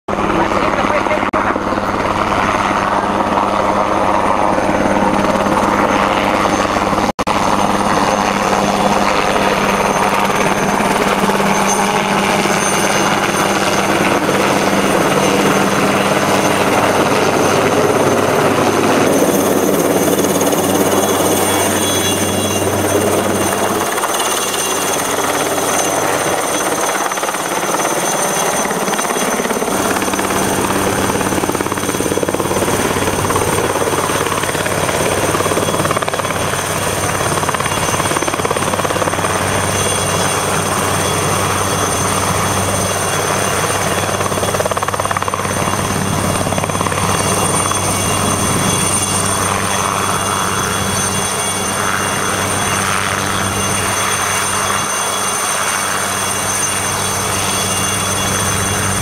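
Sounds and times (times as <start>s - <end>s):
helicopter rotor beat and engine: 0.1s - 59.0s.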